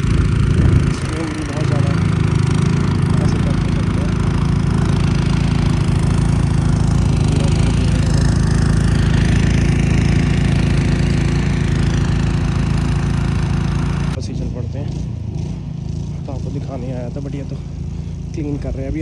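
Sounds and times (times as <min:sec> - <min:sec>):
snowblower engine running: 0:00.0 - 0:19.0.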